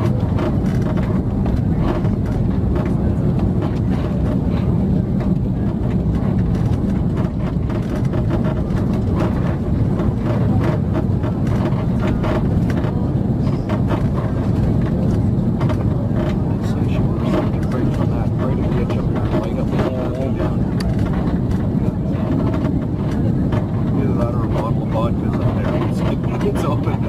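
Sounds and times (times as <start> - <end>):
airliner engine and airflow rumble: 0.0 - 27.0.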